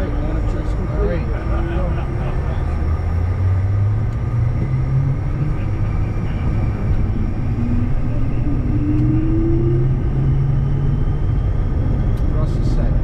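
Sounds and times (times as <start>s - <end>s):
jet engines rumbling: 0.0s - 13.0s
rising tone: 1.5s - 12.3s.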